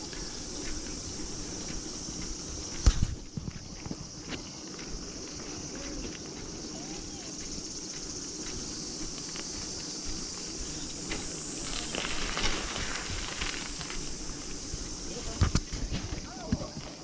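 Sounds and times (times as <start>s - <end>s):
bicycle rolling on concrete: 0.0s - 17.0s
insects chirring: 0.0s - 17.0s.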